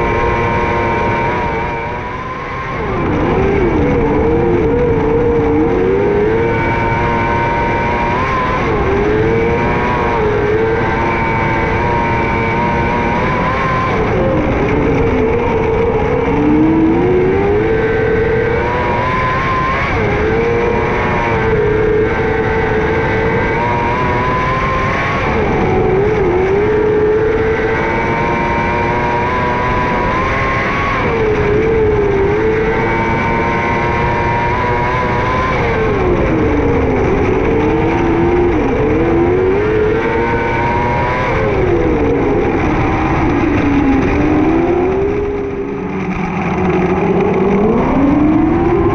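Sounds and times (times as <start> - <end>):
racing car engine revving: 0.0 - 48.9.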